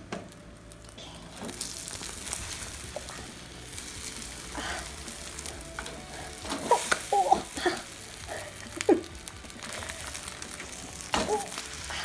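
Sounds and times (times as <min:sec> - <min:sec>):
omelette sizzling in a pan: 0:00.0 - 0:12.0.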